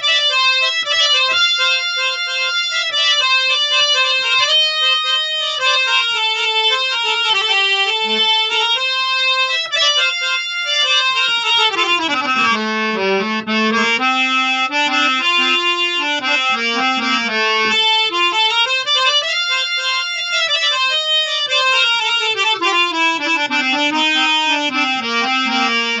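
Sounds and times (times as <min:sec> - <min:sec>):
harmonium playing: 0:00.0 - 0:26.0.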